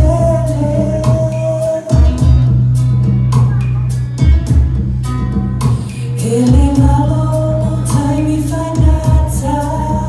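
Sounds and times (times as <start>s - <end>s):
drum kit beat: 0.0s - 10.0s
guitar: 0.0s - 10.0s.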